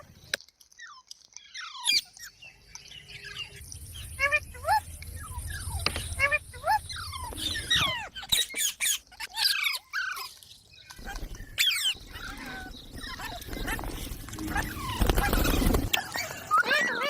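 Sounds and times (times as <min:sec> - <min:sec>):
parrot chirps and squawks: 0:00.8 - 0:02.4, 0:04.2 - 0:17.0.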